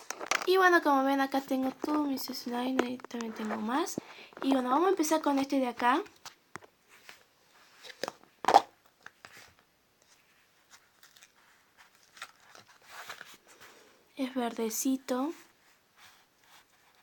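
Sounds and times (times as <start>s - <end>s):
soft rustling: 1.4s - 8.2s, 9.0s - 17.0s.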